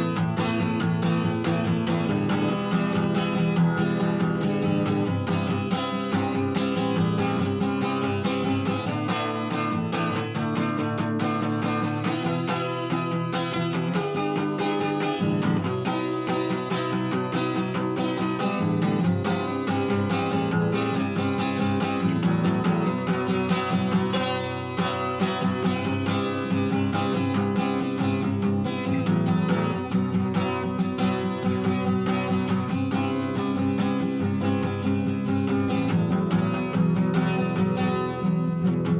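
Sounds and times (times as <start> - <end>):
acoustic guitar chords: 0.0 - 38.9.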